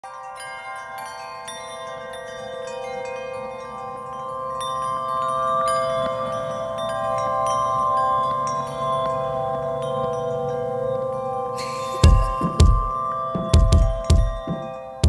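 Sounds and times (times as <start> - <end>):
chimes ringing: 0.0 - 15.0.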